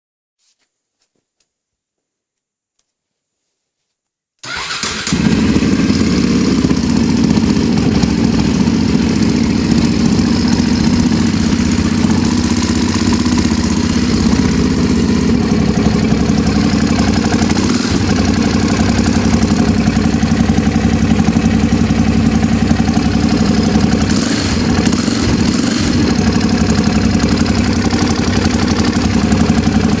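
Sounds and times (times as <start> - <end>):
motorcycle engine starting and idling: 4.4 - 30.0.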